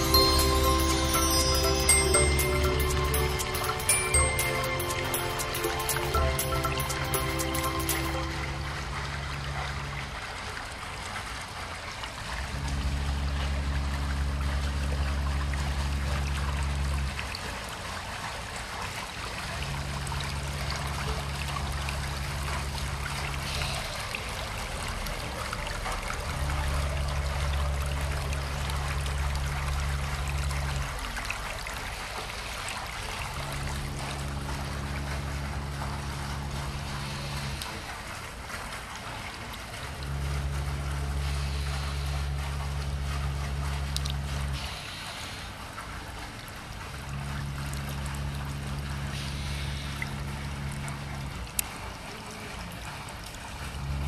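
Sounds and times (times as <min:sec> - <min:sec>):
low hum: 0:00.0 - 0:10.6, 0:12.4 - 0:17.7, 0:19.4 - 0:23.9, 0:26.1 - 0:31.6, 0:32.8 - 0:45.1, 0:45.7 - 0:52.1
water trickling over a step: 0:05.2 - 0:54.0.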